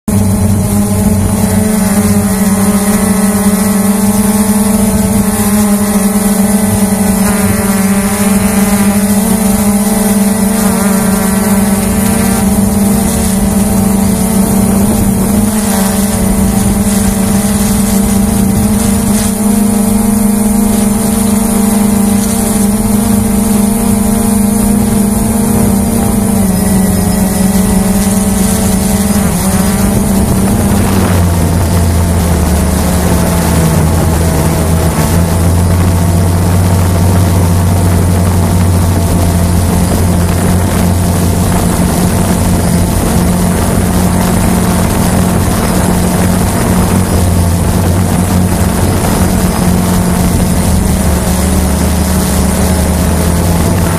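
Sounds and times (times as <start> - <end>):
drone motors buzzing: 0.0 - 53.9.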